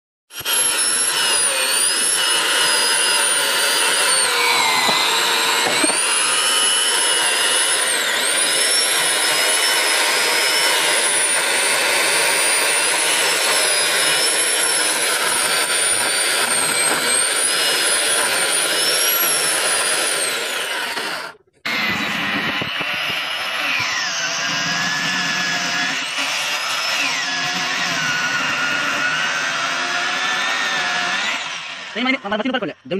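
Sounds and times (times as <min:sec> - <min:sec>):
electric chainsaw cutting log: 0:00.3 - 0:32.7.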